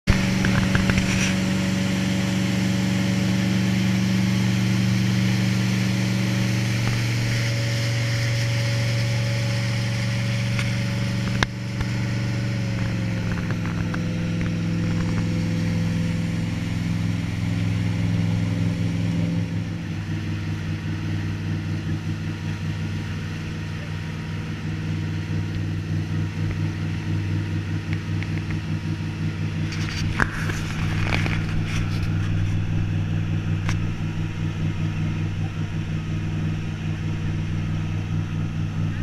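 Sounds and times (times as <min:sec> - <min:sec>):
motorboat engine running: 0:00.0 - 0:39.0.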